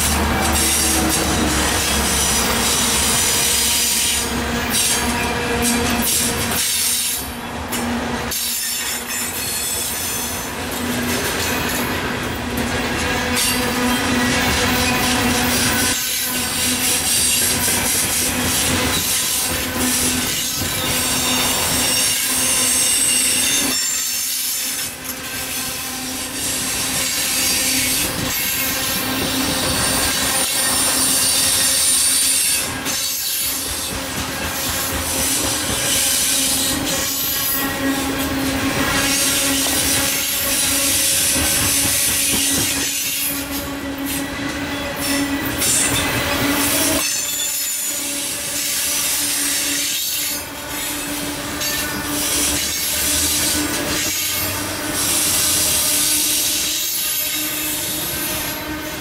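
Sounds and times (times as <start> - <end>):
freight train rolling past: 0.0 - 59.0
steel wheels squealing on rails: 0.0 - 59.0.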